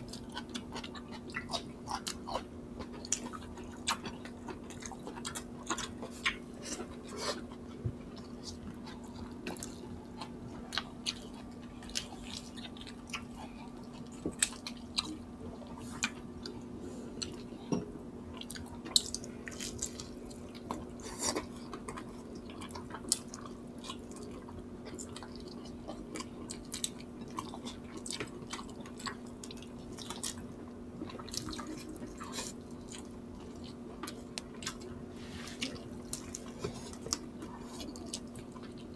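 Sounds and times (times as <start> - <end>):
chewing and wet mouth sounds: 0.0 - 38.9
steady low hum: 0.0 - 38.9.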